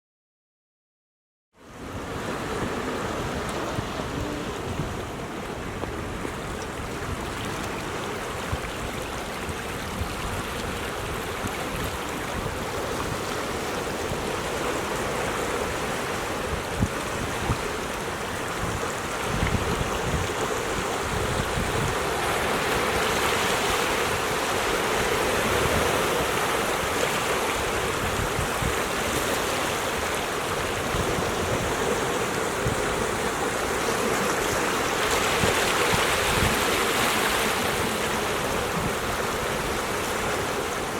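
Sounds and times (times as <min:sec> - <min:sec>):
ocean surf on rocks: 0:01.6 - 0:40.9.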